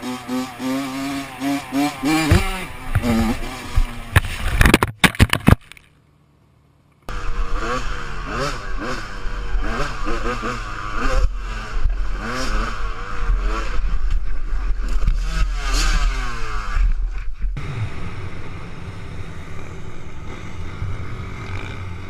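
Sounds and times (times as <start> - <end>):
motocross bike engine revving: 0.0 - 4.4, 7.1 - 22.0.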